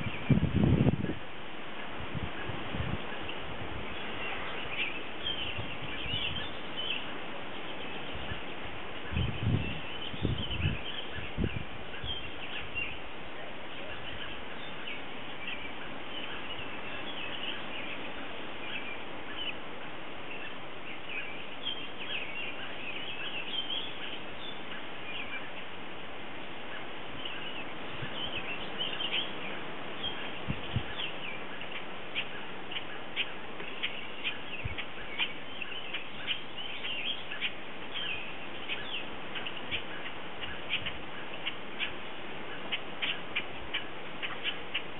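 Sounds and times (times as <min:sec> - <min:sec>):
small birds chirping: 0:00.0 - 0:44.9
steady outdoor hiss: 0:00.0 - 0:44.9.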